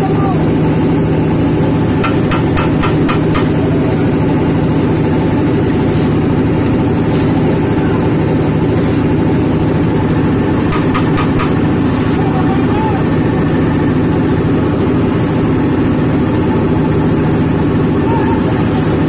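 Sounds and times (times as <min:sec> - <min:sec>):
machinery engine running: 0:00.0 - 0:19.0.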